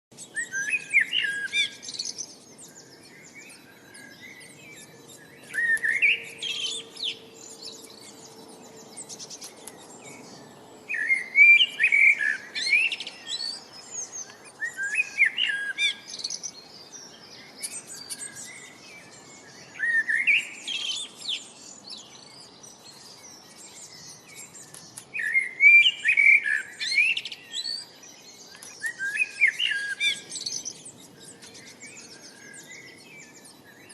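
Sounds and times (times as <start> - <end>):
faint chirps of other birds: 0.1 - 33.9
songbird singing quick chirps: 0.1 - 33.9.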